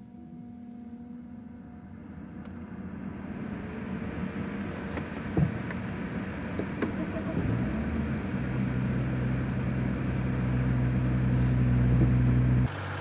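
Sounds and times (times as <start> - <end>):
steady electric hum: 0.0 - 13.0.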